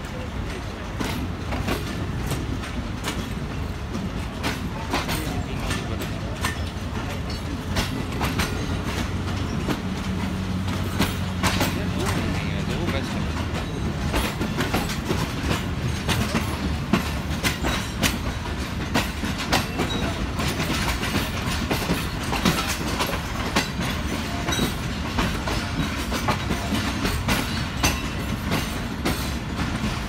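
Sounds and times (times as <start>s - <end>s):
train wheels rumbling and clattering: 0.0s - 30.0s.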